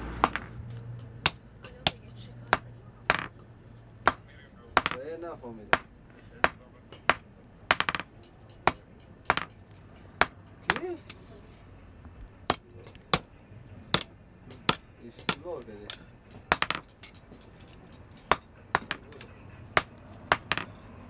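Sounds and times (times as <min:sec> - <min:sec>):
hammer striking iron on anvil: 0:00.1 - 0:11.2, 0:12.4 - 0:17.5, 0:18.1 - 0:21.0.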